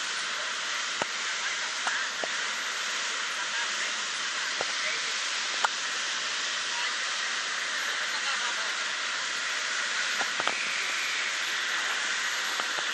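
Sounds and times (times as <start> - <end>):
water wash: 0.0 - 12.9.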